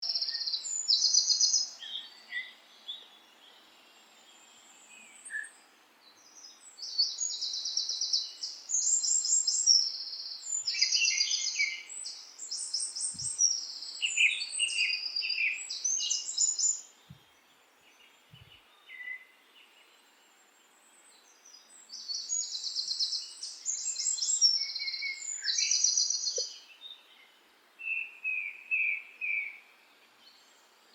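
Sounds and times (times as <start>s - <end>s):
songbird singing trilled phrases: 0.0s - 20.0s, 21.0s - 30.6s.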